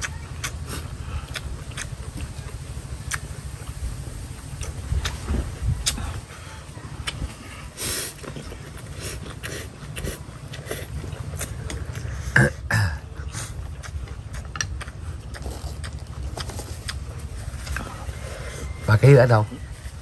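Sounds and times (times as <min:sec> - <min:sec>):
low rumble: 0:00.0 - 0:20.0
man slurping and chewing noodles: 0:00.0 - 0:20.0.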